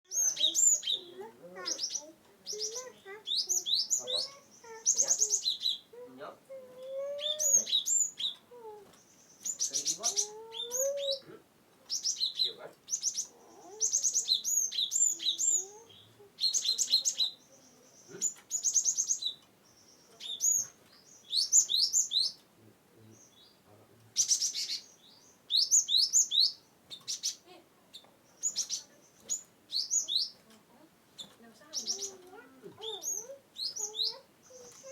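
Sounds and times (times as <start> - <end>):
bird chattering song: 0.1 - 34.9.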